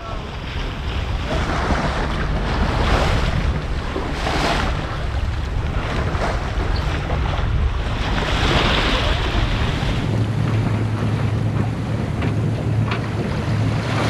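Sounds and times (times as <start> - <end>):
water splashing along hull: 0.0 - 14.0
wind buffeting microphone: 0.0 - 14.0.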